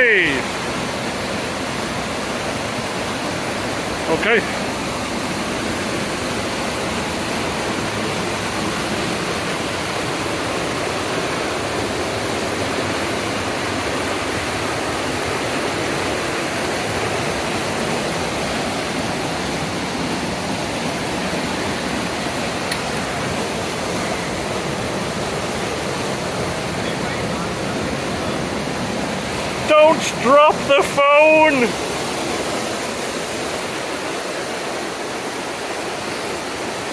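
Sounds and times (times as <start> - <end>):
river water rushing over rocks: 0.0 - 36.9.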